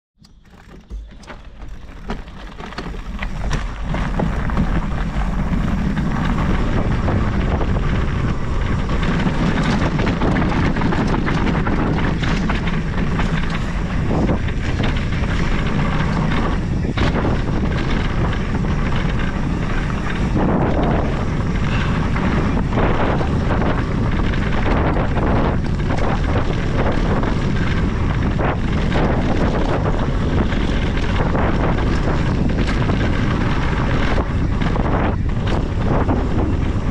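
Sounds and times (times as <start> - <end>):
bike clattering over bumps: 0.2 - 36.9
bike tyres rumbling on gravel: 0.2 - 36.9
wind rushing on microphone: 0.6 - 36.9.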